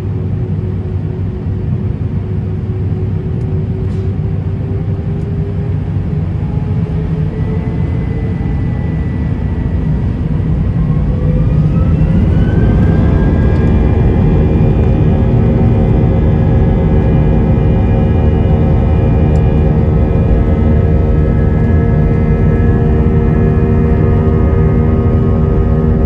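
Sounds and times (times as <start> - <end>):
jet engines spooling up: 0.2 - 26.0.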